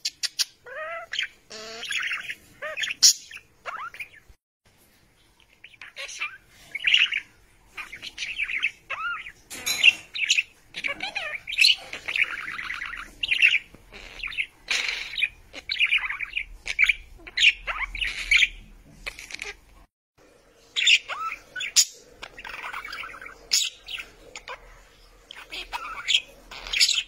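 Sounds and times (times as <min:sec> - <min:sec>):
budgerigars chattering: 0:00.2 - 0:04.2, 0:05.6 - 0:19.6, 0:20.8 - 0:24.7, 0:25.3 - 0:27.0.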